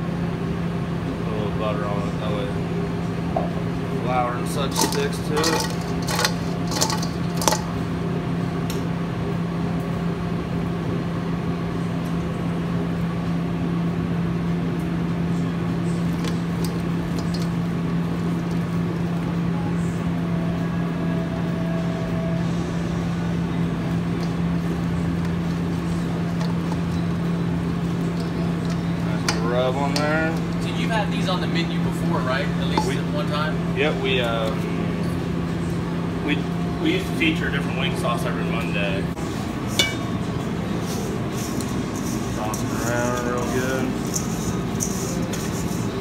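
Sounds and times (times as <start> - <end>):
kitchen equipment hum: 0.0 - 46.0
noisy whir: 0.0 - 46.0.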